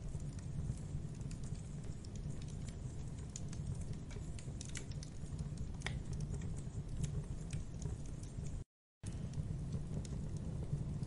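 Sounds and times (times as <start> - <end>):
campfire crackling and popping: 0.0 - 11.0
low fire rumble: 0.0 - 11.0.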